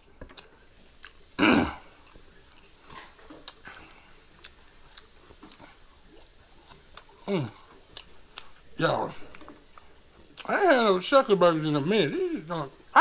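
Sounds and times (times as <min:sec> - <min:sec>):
man chewing: 0:00.0 - 0:10.6.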